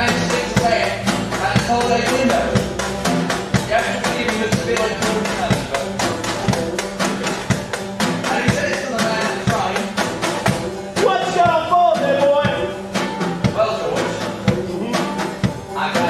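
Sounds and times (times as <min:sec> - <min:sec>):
acoustic skiffle band playing: 0:00.0 - 0:16.0
voices singing: 0:00.0 - 0:16.0.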